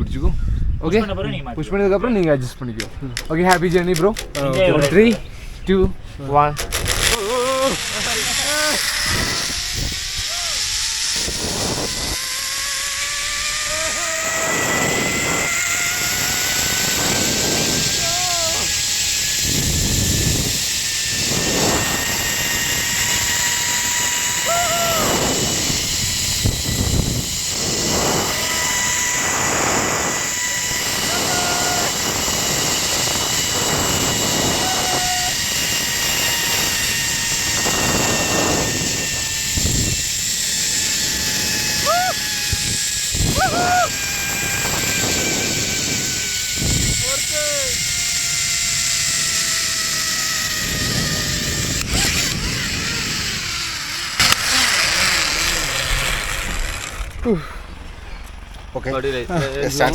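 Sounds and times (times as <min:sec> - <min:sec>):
wind rushing over microphone: 0:00.0 - 0:58.5
zipline pulleys whining on cable: 0:02.8 - 0:58.5.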